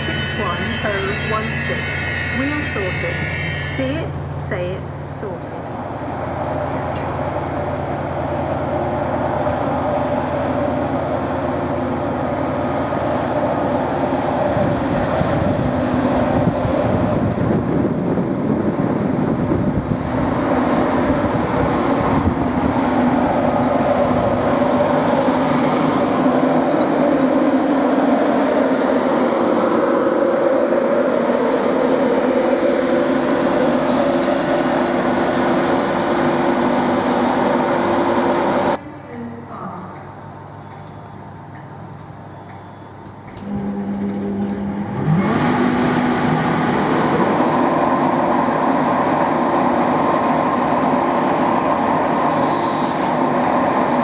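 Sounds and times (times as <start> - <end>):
electric locomotive running slowly: 0.0 - 54.0
locomotive steady hum: 0.0 - 54.0.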